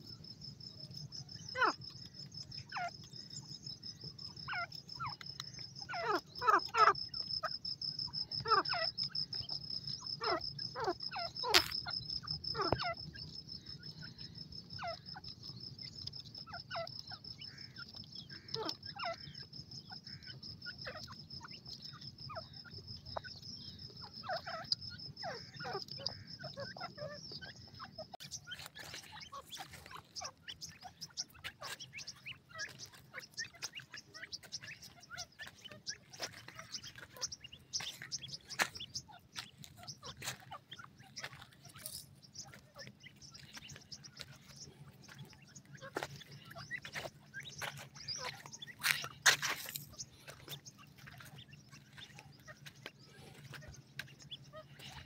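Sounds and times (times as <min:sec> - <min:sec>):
francolins calling: 0:00.0 - 0:55.0.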